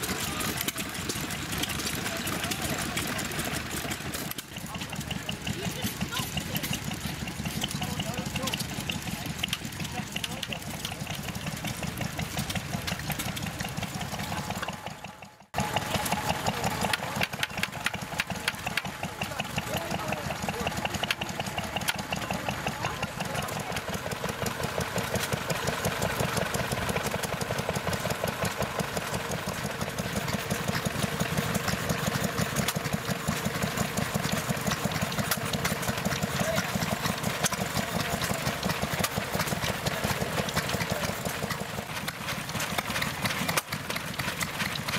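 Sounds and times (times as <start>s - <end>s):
stationary engines running: 0.0s - 44.9s.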